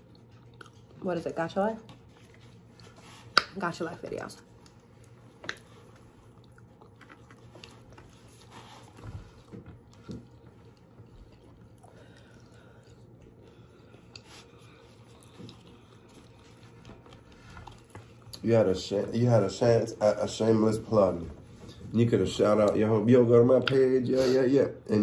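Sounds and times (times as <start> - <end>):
people chewing food: 0.0 - 24.3.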